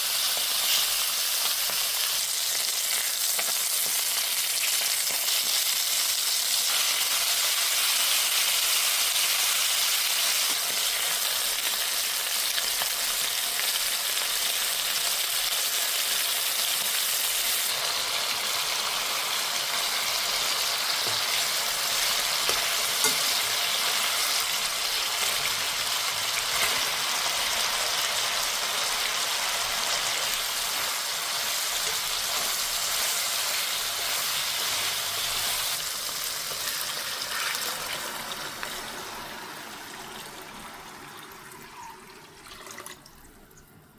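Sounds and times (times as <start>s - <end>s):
food sizzling in frying pan: 0.0s - 42.0s.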